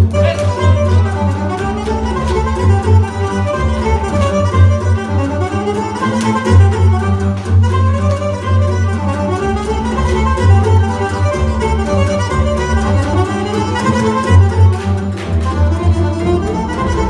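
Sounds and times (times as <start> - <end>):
fiddle playing dance tune: 0.0 - 17.0
pulsing bass accompaniment: 0.0 - 17.0.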